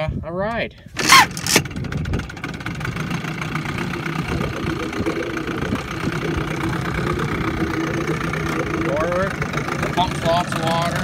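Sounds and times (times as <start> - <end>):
outboard motor idling: 0.9 - 11.0.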